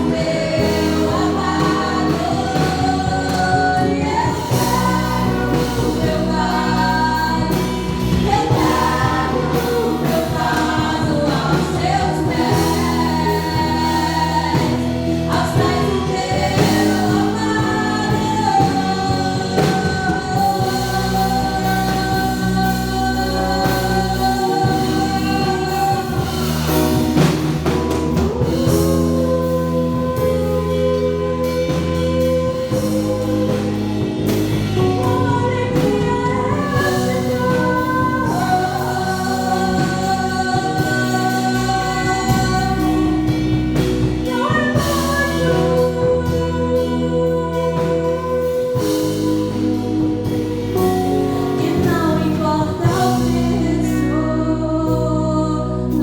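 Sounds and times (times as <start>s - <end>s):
band with bass keyboard and drums: 0.0s - 56.0s
group of voices singing: 0.0s - 56.0s.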